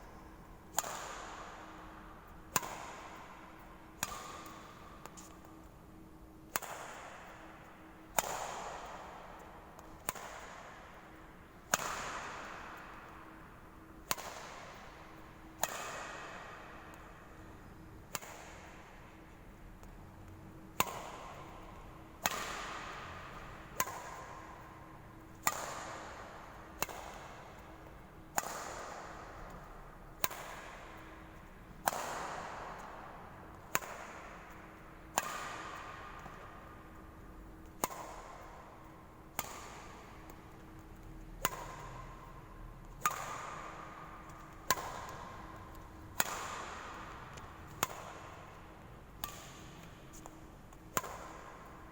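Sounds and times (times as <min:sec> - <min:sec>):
racket hitting shuttlecock: 0:00.6 - 0:05.7, 0:06.4 - 0:17.4, 0:18.0 - 0:19.9, 0:20.6 - 0:51.9.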